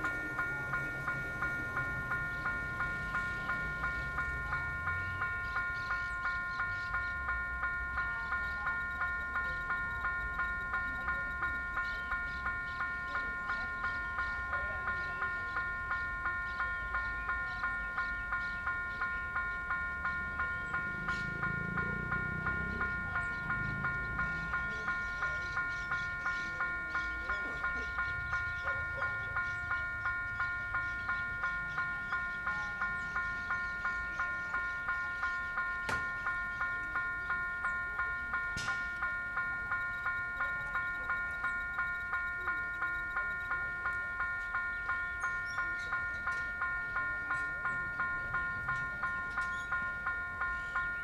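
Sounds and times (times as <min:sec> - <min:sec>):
level crossing bell ringing: 0:00.0 - 0:51.0.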